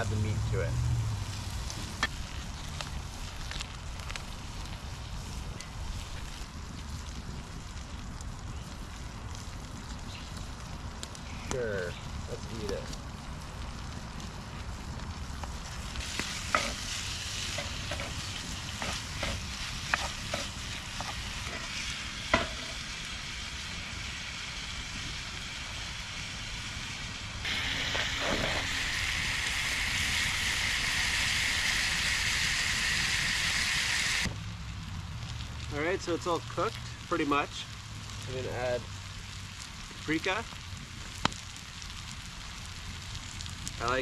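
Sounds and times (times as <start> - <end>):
food frying in a pan: 0.0 - 44.0
loud steady sizzle: 0.0 - 44.0.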